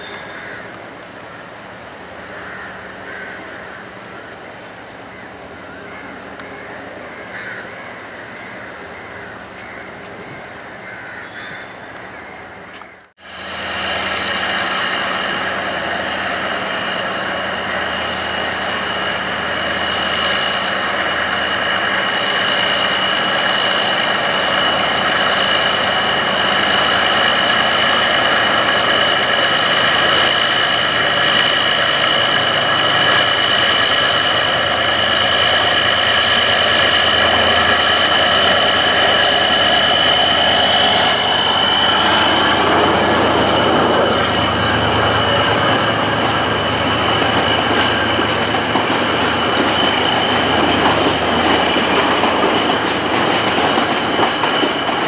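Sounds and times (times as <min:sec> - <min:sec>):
diesel locomotive approaching: 0:00.0 - 0:55.0
high whine: 0:00.0 - 0:55.0
railway station ambience: 0:00.0 - 0:55.0.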